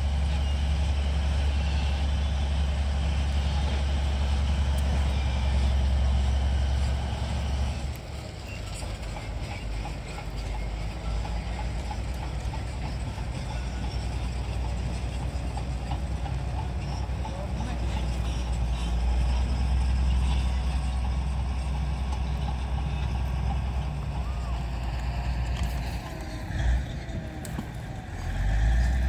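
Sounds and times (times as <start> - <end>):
vehicle engine drone: 0.0 - 29.0.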